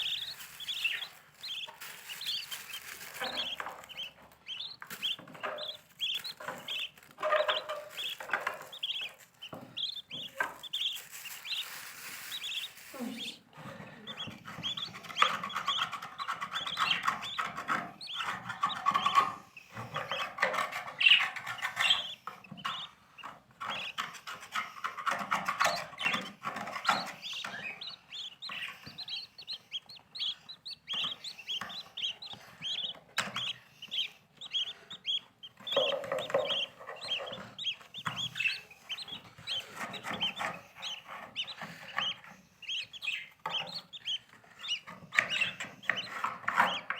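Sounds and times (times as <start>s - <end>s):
birds chirping: 0.0s - 46.9s.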